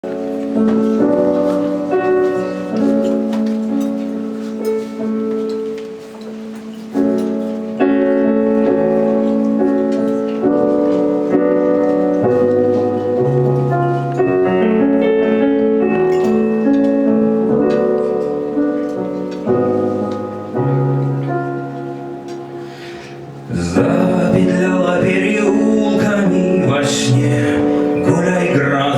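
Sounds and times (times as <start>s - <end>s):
slow piano chords: 0.0s - 28.9s.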